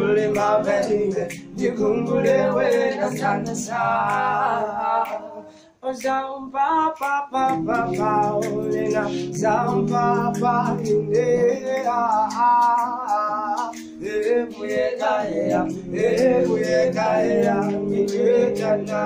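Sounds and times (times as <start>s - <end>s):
men singing in harmony: 0.0s - 19.0s.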